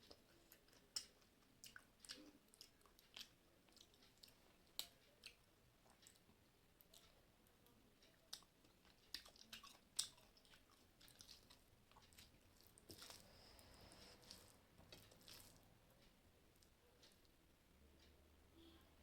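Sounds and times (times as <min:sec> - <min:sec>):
person chewing food: 0:00.0 - 0:17.4.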